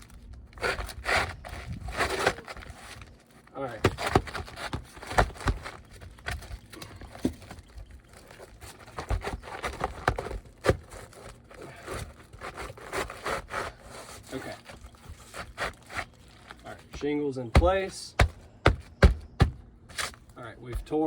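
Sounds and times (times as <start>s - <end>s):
shingle scraping and rustling: 0.0s - 21.0s.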